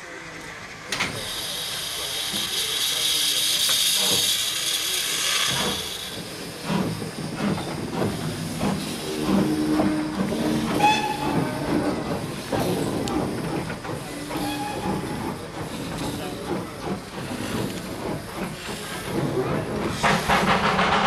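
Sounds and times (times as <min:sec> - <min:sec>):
steam hissing: 0:00.0 - 0:21.0
clanking of locomotive motion: 0:00.2 - 0:21.0
steam locomotive exhaust chuffs: 0:00.3 - 0:21.0.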